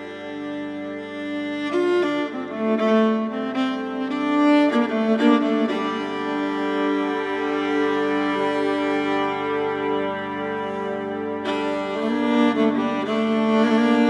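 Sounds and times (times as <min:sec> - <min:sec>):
bowed strings music: 0:00.0 - 0:14.0.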